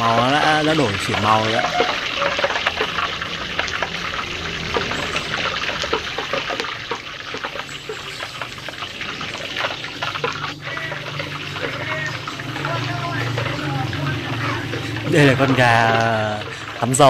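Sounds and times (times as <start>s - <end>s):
oil crackling: 0.0s - 17.0s
oil trickling into wok: 0.0s - 17.0s.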